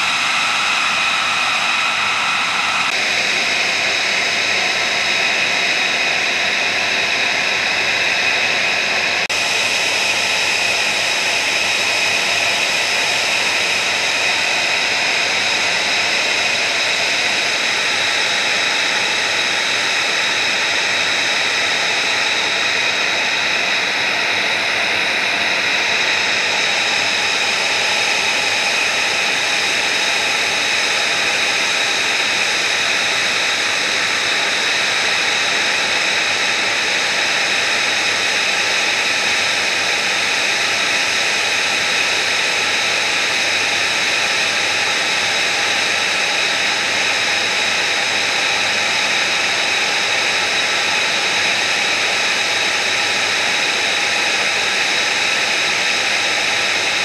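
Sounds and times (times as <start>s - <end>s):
jet engine idling whine: 0.0s - 57.0s.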